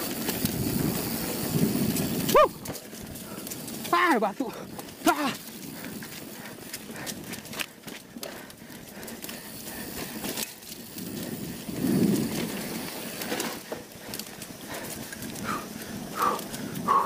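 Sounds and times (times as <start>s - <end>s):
bike rattling over bumps: 0.0s - 17.0s
bike tyres on dirt: 0.0s - 17.0s.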